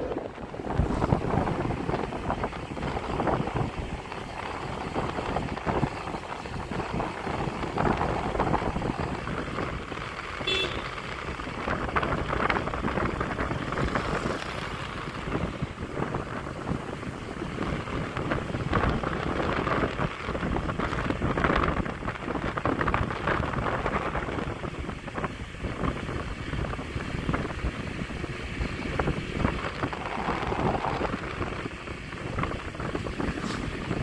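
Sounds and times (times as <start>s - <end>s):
moving vehicle rumble: 0.0s - 34.0s
wind buffeting microphone: 0.0s - 34.0s.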